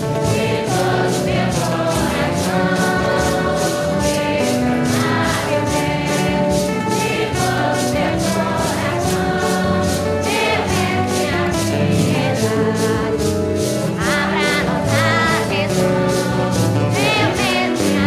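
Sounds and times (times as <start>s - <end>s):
congregation singing a hymn: 0.0s - 18.0s
shakers rattling: 0.0s - 18.0s.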